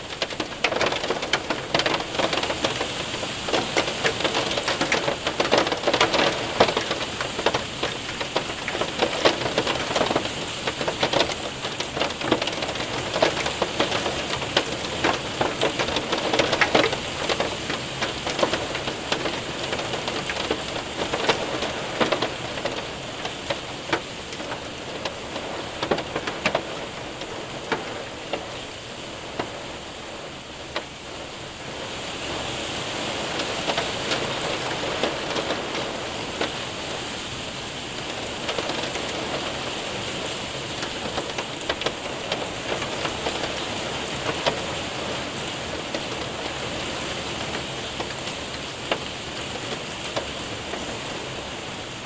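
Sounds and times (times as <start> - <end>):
hailstones ticking: 0.0 - 52.0
rain pattering: 0.0 - 52.0.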